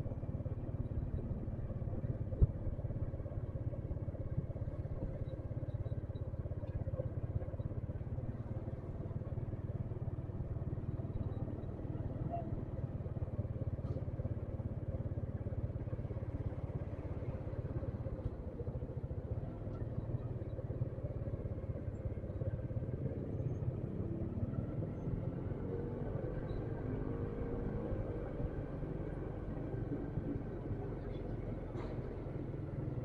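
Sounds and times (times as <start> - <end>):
motorcycle engine rumble: 0.0 - 33.0.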